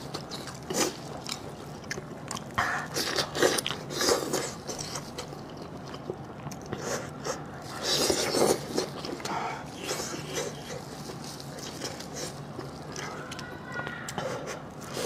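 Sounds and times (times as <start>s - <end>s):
person chewing food: 0.0s - 13.5s.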